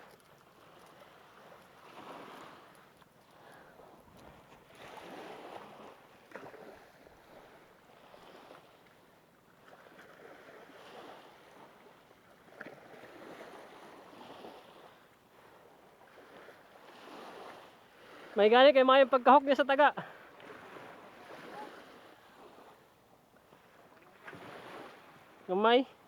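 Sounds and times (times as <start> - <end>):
faint waves washing on shore: 0.0 - 26.0.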